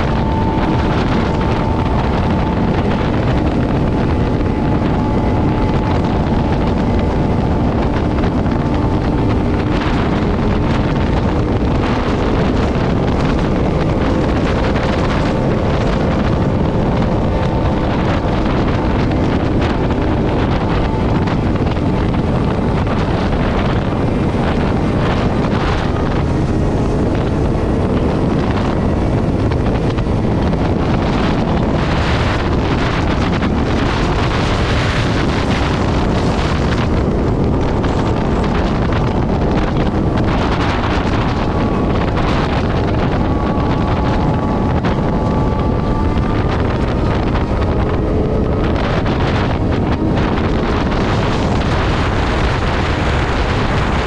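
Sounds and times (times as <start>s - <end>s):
motorcycle engine hum: 0.0s - 54.0s
wind rushing over microphone: 0.0s - 54.0s.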